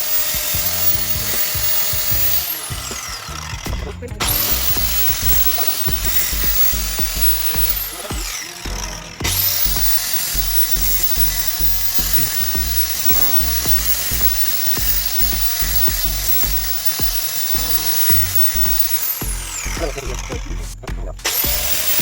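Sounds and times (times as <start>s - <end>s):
background music with steady beat: 0.0s - 22.0s
grinder whining on steel: 0.0s - 22.0s.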